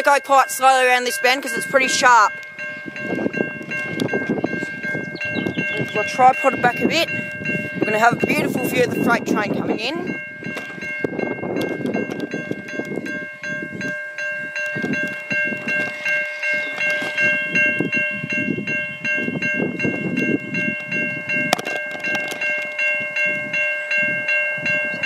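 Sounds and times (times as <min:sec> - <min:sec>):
level crossing warning bell: 0:00.0 - 0:25.0
low gusty rumble: 0:01.5 - 0:25.0.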